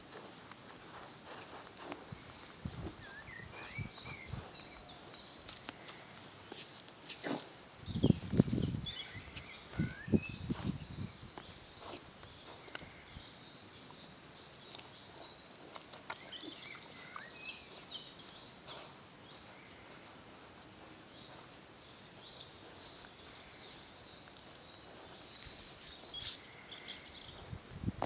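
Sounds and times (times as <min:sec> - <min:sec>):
piglet scuffing soil: 0:00.0 - 0:13.0, 0:14.4 - 0:28.0
small birds chirping: 0:00.0 - 0:27.7.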